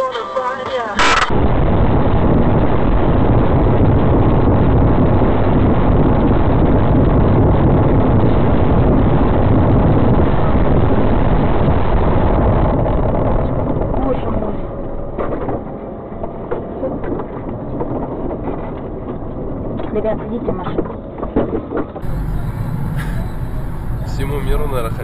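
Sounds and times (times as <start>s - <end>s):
vehicle road and wind rumble: 1.2s - 25.0s.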